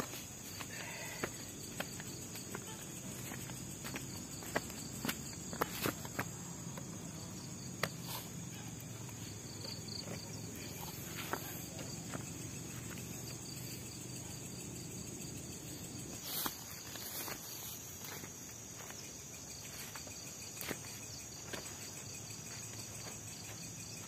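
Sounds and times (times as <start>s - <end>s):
night insect chorus trilling: 0.0s - 24.0s.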